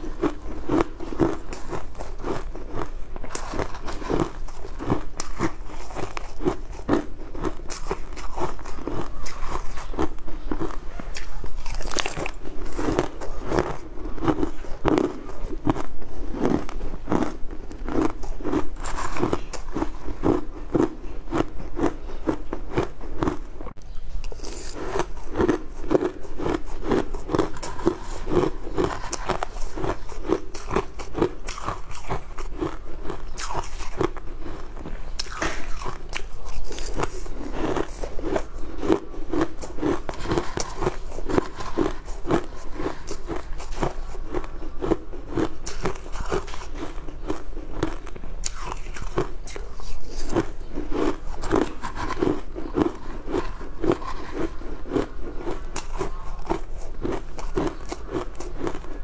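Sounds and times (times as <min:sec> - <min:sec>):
crunching and chewing icy food: 0:00.0 - 0:59.0.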